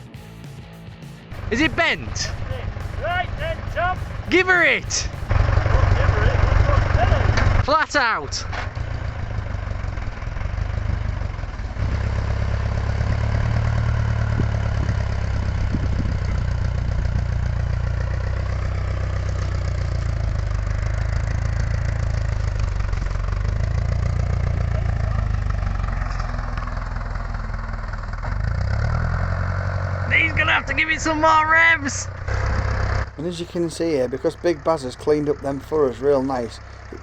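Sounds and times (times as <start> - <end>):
tractor diesel engine labouring: 1.2 - 37.0.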